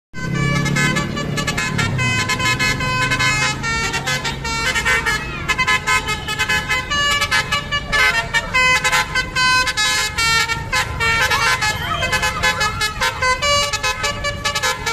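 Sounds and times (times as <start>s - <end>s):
bus engine rumbling: 0.1s - 14.9s
multi-tone air horn melody: 0.2s - 14.9s.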